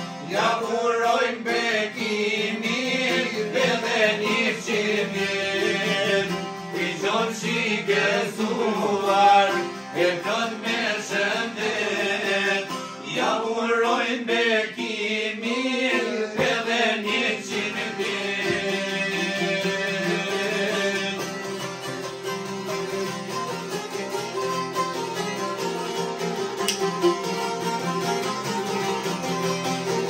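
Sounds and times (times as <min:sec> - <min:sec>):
plucked lutes: 0:00.0 - 0:13.4, 0:14.8 - 0:30.0.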